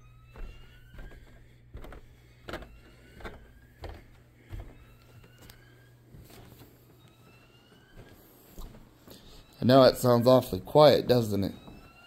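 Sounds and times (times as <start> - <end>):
rising alarm tone: 0.0 - 1.6, 2.6 - 12.0
footsteps on carpeted stairs: 0.0 - 9.5, 11.5 - 12.0.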